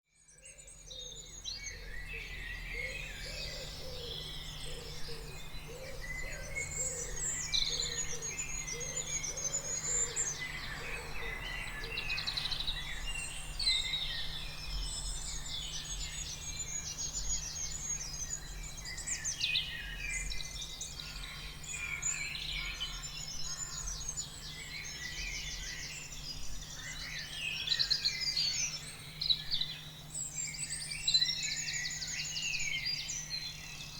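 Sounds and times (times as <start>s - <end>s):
birds singing: 0.1s - 33.9s.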